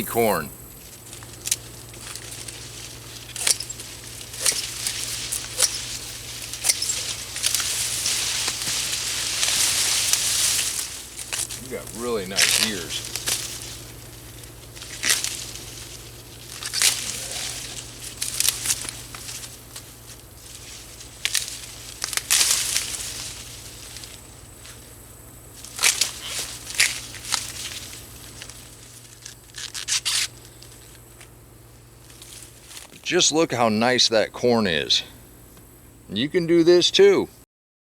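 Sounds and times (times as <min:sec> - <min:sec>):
husks rustling: 0:00.0 - 0:35.0
corn ears snapping and tearing: 0:00.9 - 0:31.4, 0:32.0 - 0:33.0.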